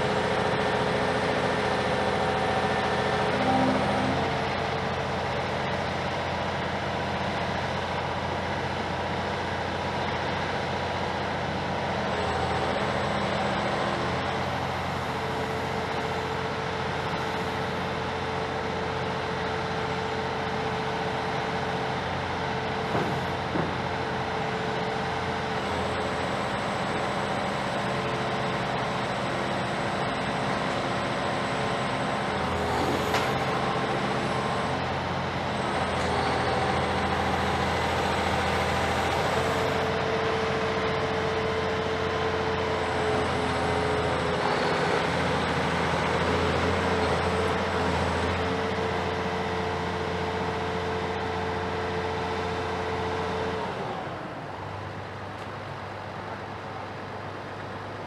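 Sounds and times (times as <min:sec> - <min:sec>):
diesel demolition machinery running: 0:00.0 - 0:58.0.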